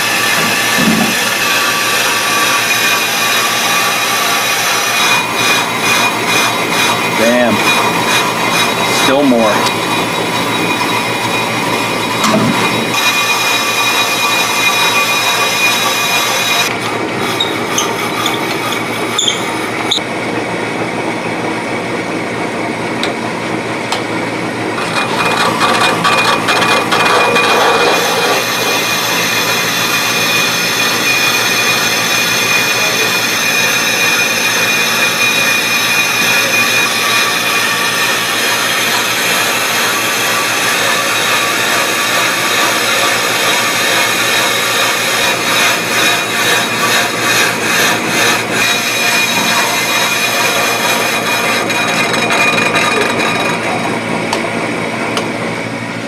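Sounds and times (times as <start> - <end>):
lathe machining brake rotor: 0.0 - 56.0.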